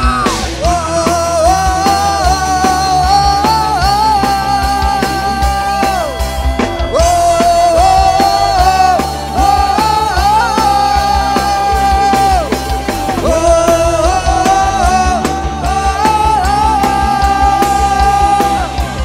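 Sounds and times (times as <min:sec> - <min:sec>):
lead melody with bending notes: 0:00.0 - 0:19.0
steady drum beat: 0:00.0 - 0:19.0.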